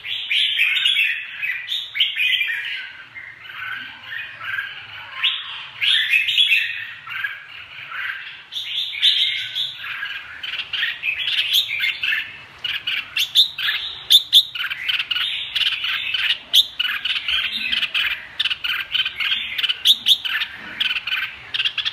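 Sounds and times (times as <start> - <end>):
birds singing and chirping: 0.0 - 21.9.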